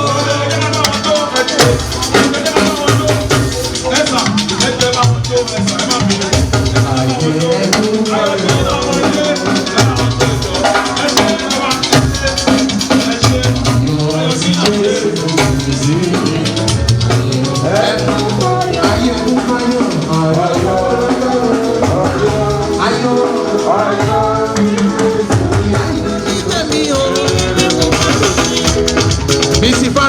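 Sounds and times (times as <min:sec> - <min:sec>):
drum-kit beat: 0:00.0 - 0:30.0
sustained melodic lines: 0:00.0 - 0:30.0.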